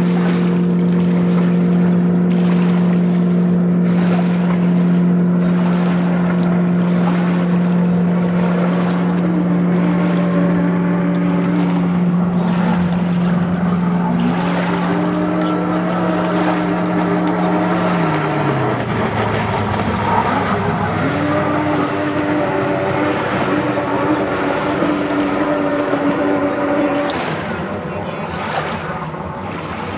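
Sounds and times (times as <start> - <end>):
jet ski engine running: 0.0 - 29.9.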